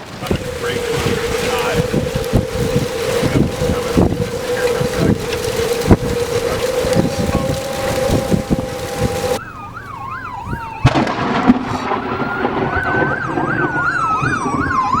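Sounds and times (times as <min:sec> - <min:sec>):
wind noise: 0:00.0 - 0:09.4, 0:10.3 - 0:15.0
wailing siren: 0:00.0 - 0:15.0
yelping siren: 0:00.0 - 0:15.0.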